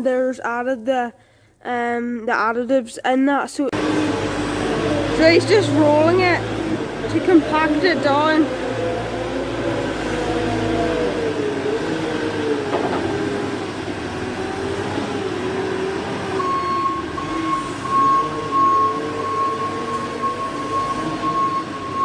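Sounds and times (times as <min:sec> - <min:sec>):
tractor engine running: 0:03.8 - 0:22.0.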